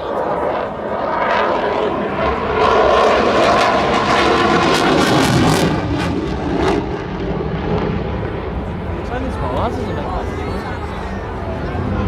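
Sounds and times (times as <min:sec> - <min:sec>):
jet engines passing: 0:00.0 - 0:12.0.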